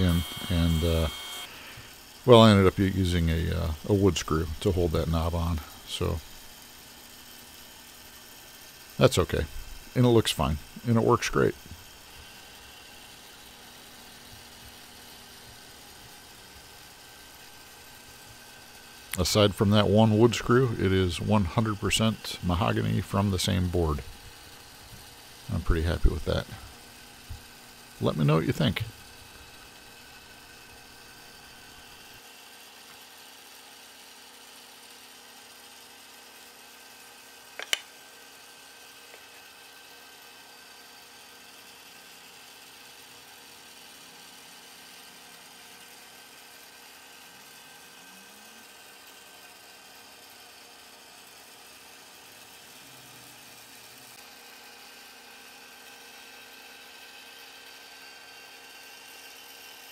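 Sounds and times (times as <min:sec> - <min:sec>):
whirring room hum: 0:00.0 - 0:59.9.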